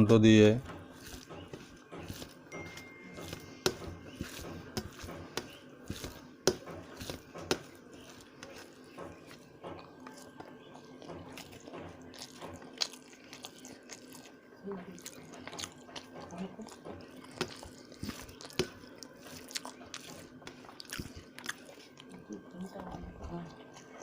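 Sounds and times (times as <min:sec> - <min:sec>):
wet chewing and mouth noises: 0:00.7 - 0:24.0.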